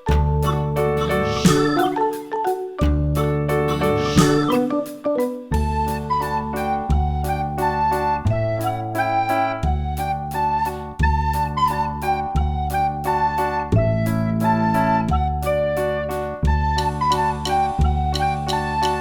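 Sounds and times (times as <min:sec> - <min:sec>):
held bass line: 0:00.0 - 0:02.1, 0:02.8 - 0:04.9, 0:05.5 - 0:19.0
bouncy keyboard tune: 0:00.0 - 0:19.0.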